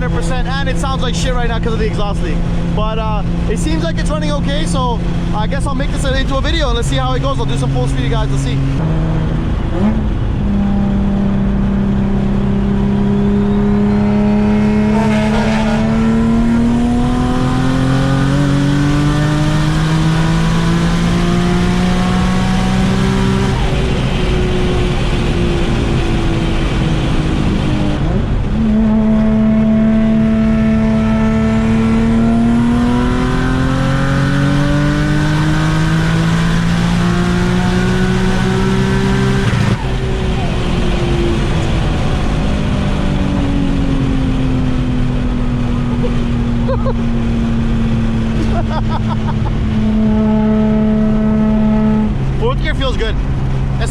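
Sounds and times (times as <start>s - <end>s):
turbocharged car engine accelerating: 0.0s - 53.9s.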